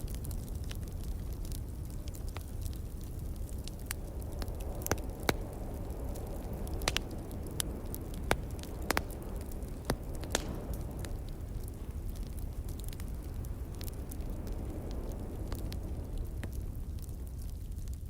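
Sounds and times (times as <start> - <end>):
burning logs popping: 0.0 - 18.0
wood fire crackling: 0.0 - 18.0.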